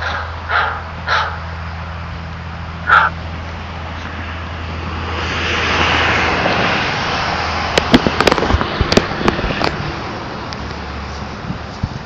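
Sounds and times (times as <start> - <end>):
rush of noise: 0.0 - 10.5.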